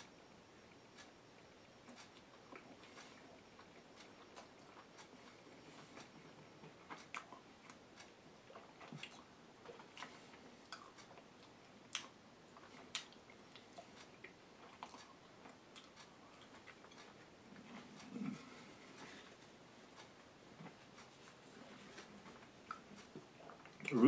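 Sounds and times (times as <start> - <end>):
person chewing with mouth clicks: 1.7 - 21.2, 21.9 - 24.0.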